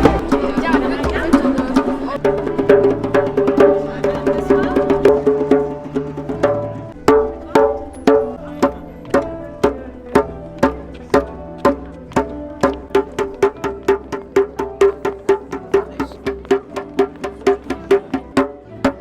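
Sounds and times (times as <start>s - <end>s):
percussion strikes: 0.0s - 19.0s.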